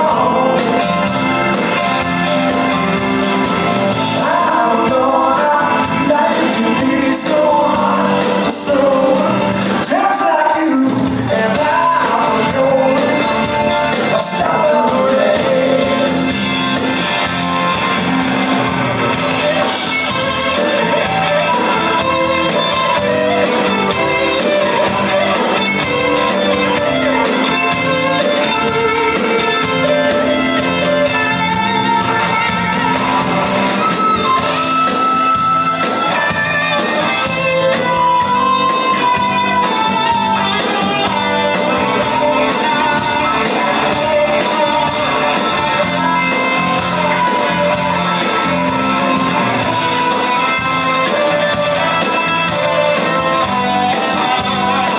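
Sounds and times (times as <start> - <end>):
blues-rock band playing: 0.0 - 54.9
lead electric guitar: 0.0 - 54.9.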